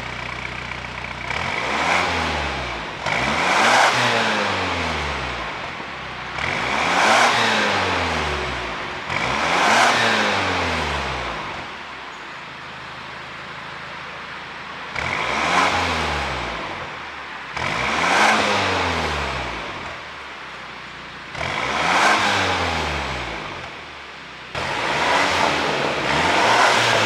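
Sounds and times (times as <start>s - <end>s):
car engine revving: 1.0s - 11.6s, 14.9s - 20.6s, 21.3s - 27.0s.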